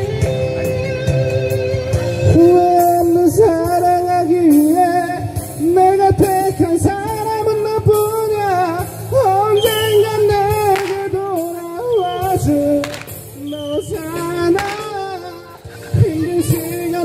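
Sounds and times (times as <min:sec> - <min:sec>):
karaoke backing music: 0:00.0 - 0:17.0
man singing into a microphone: 0:02.1 - 0:17.0.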